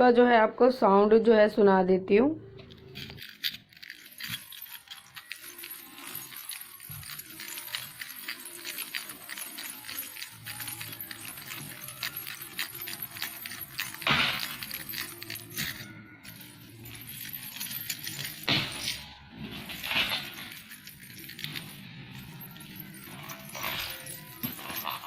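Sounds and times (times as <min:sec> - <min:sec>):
small bells jingling: 0:02.7 - 0:25.0.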